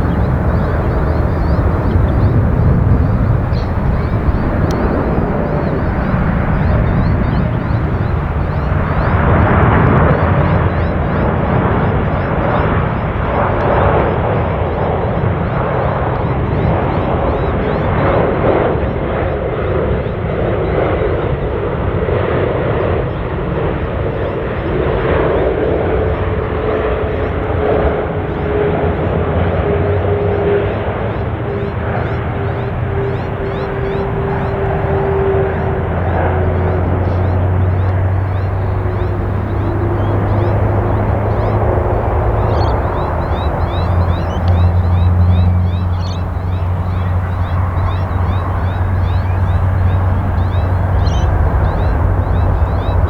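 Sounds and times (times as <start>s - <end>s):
jet engines rumbling and whining: 0.0s - 53.0s.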